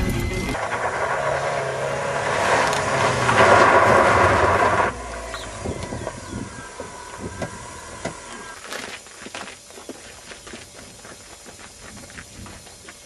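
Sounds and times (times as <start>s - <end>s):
tyres on gravel: 0.0s - 13.0s.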